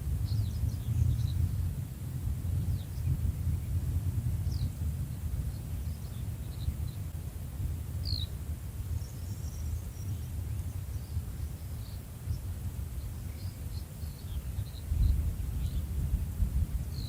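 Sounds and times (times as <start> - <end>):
high chirps of birds or insects: 0.0 - 17.0
steady low rumble: 0.0 - 17.0.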